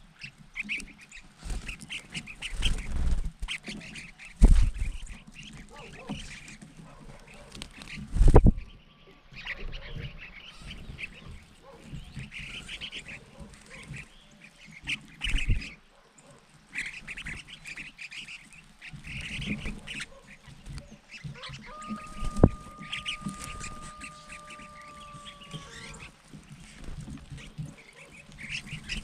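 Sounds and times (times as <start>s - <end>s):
birds chattering calls: 0.0s - 29.0s.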